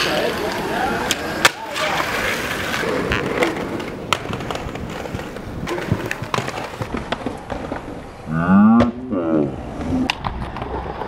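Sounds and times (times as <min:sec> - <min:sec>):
skates clicking and knocking: 0:00.0 - 0:08.1, 0:09.8 - 0:11.0
skate wheels rolling on stone: 0:00.0 - 0:11.0.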